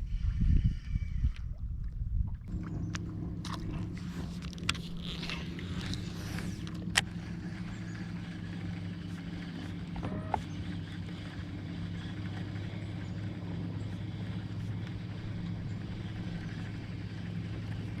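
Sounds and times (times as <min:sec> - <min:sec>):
boat motor humming: 0:01.5 - 0:18.0.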